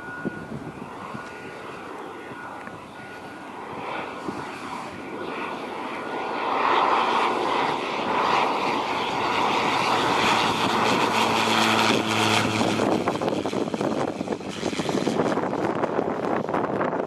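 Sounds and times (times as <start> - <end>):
wind buffeting microphone: 0.0 - 6.0, 6.9 - 17.0
turboprop airplane flying past: 0.0 - 17.0.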